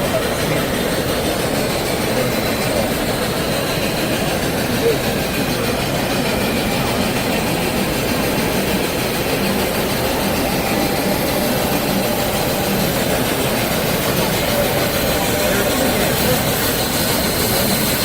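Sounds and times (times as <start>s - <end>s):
convention hall background din: 0.0s - 18.0s.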